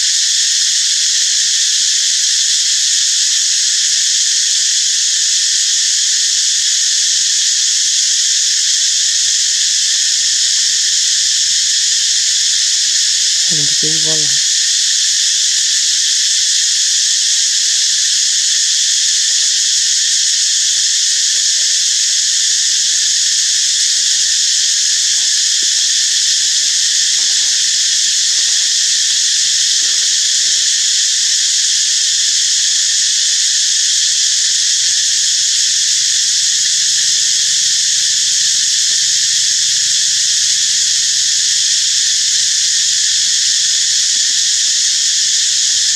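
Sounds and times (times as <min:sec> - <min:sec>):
insects buzzing: 0:00.0 - 0:45.9.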